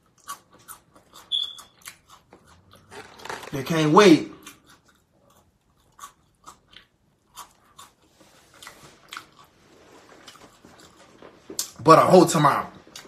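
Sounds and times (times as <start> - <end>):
person chewing crunchy snack: 0.0 - 3.6, 4.3 - 11.8.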